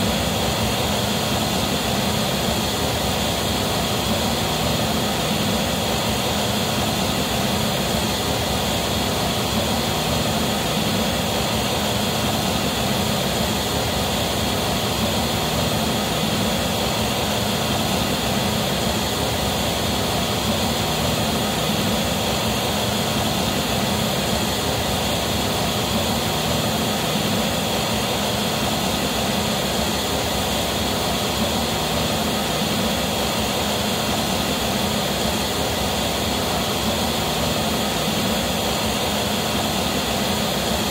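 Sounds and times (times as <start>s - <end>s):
pink noise through loudspeakers: 0.0s - 40.9s.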